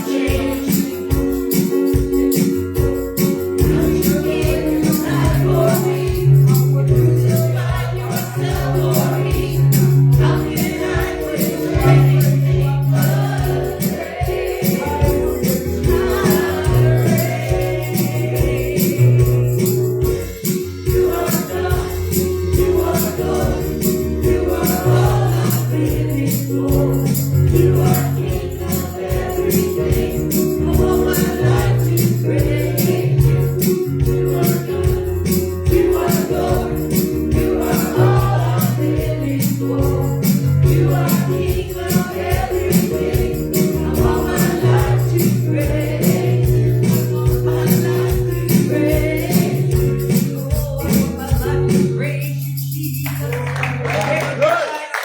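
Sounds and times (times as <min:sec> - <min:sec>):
people singing: 0:00.0 - 0:02.4, 0:03.2 - 0:52.5
band playing: 0:00.0 - 0:51.9
fast percussion beat: 0:00.0 - 0:54.6.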